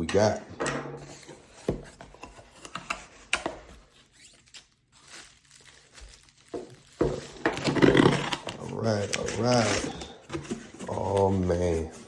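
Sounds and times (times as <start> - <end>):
packaging rustling and tearing: 1.0 - 12.0.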